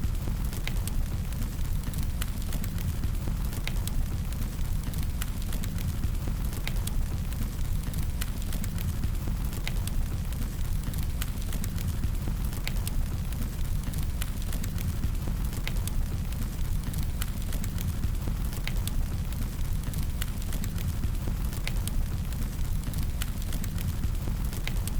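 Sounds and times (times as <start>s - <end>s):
flames burning with crackles: 0.0s - 24.9s.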